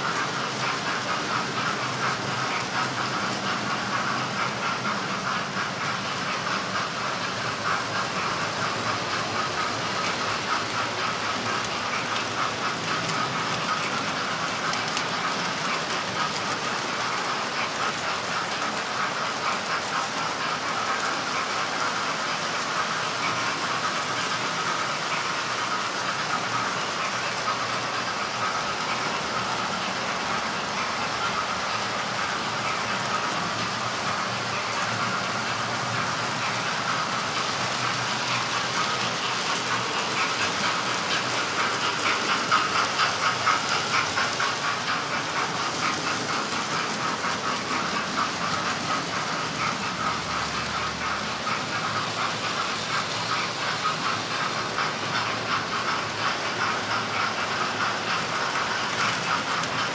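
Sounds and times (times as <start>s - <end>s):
small locomotive motors whirring: 0.0s - 59.9s
wheels rattling on track: 0.0s - 59.9s.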